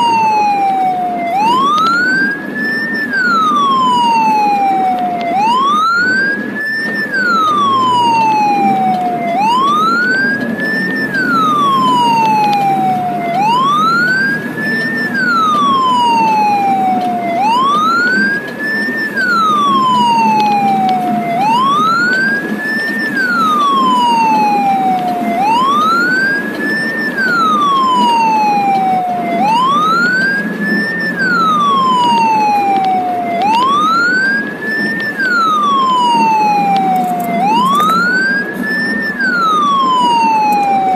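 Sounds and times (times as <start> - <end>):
ambulance siren wailing: 0.0 - 40.9
engine and road noise hum: 0.0 - 40.9.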